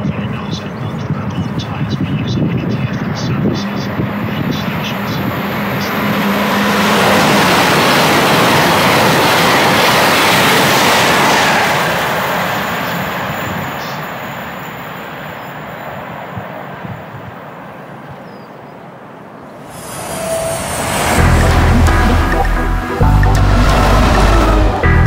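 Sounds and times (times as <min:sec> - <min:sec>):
train wheel and rail noise: 0:00.0 - 0:17.6, 0:19.6 - 0:25.0.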